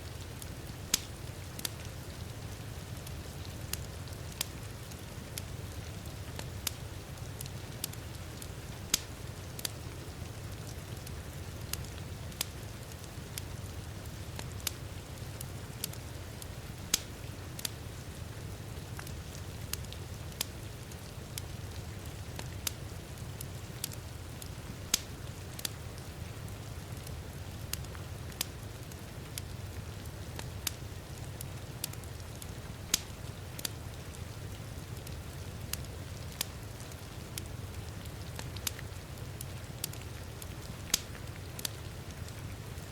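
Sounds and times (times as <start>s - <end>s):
wood fire crackling and popping: 0.1s - 42.9s.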